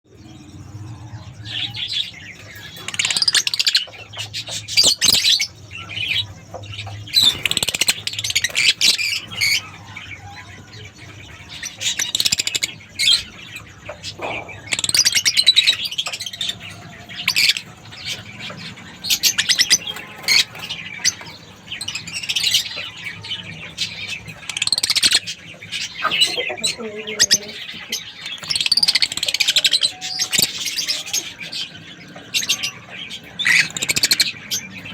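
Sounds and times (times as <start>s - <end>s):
lovebirds chirping and squawking: 0.1s - 34.9s.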